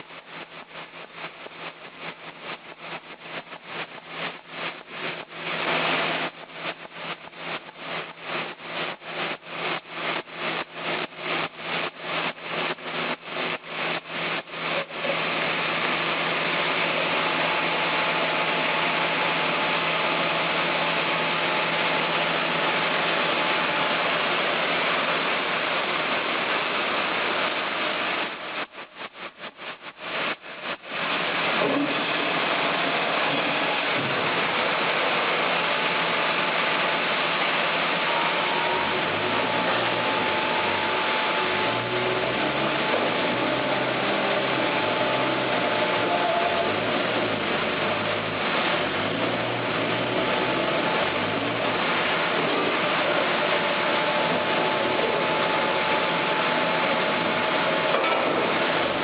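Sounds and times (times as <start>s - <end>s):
continuous even whir: 0.0s - 59.0s
machine humming: 0.0s - 59.0s.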